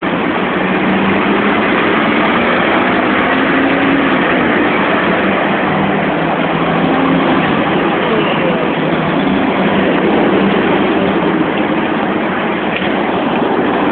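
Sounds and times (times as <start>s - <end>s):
electric tram rumbling: 0.0s - 13.9s.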